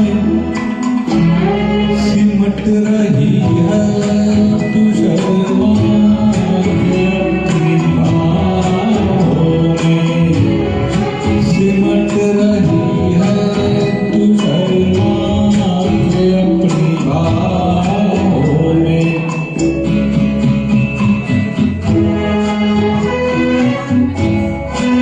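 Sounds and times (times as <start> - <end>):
karaoke backing track: 0.0 - 25.0
person singing: 0.0 - 25.0.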